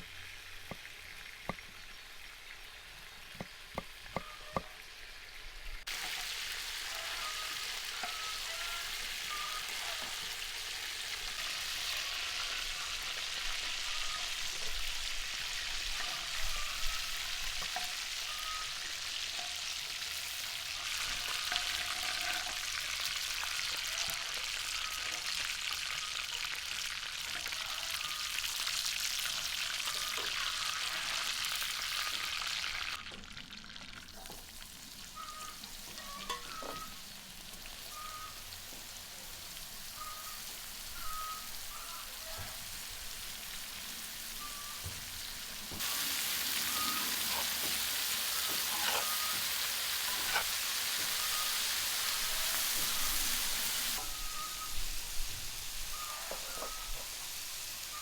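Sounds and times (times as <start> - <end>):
meat sizzling in hot fat: 0.0 - 58.0.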